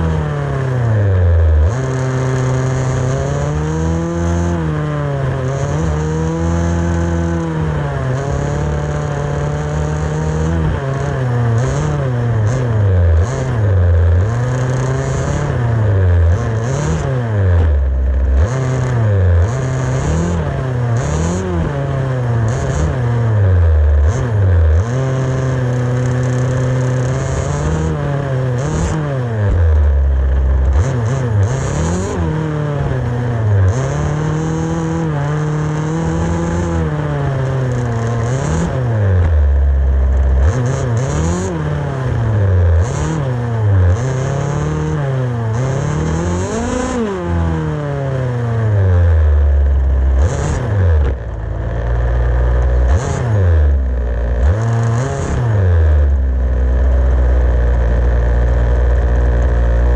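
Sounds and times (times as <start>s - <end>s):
small two-stroke engine revving: 0.0s - 59.9s.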